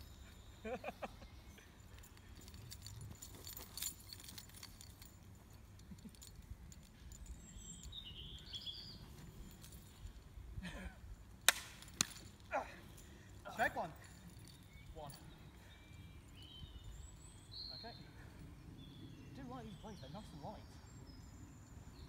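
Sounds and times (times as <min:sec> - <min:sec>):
bird chirping: 0:00.0 - 0:10.2, 0:12.7 - 0:22.0.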